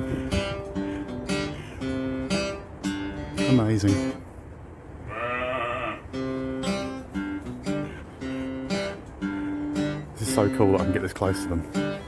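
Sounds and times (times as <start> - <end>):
plucked acoustic guitar: 0.0 - 4.2, 6.1 - 12.0.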